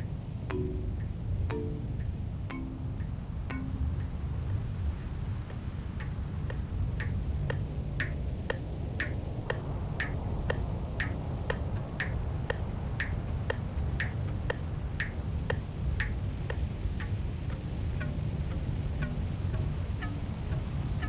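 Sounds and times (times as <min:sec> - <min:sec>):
ticking clicks with ringing tone: 0:00.0 - 0:17.2
low steady rumble: 0:00.0 - 0:21.0.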